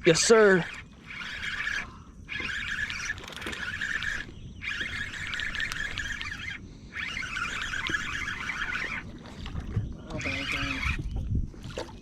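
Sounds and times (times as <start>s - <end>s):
fishing reel whirring: 0.0s - 11.8s.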